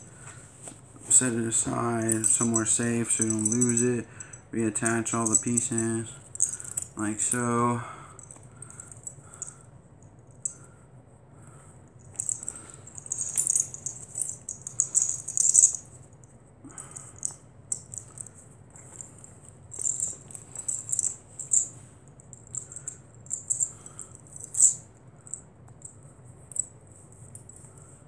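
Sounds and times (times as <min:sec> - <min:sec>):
metal buckles clinking: 0:01.2 - 0:09.6, 0:12.0 - 0:15.9, 0:16.9 - 0:27.8.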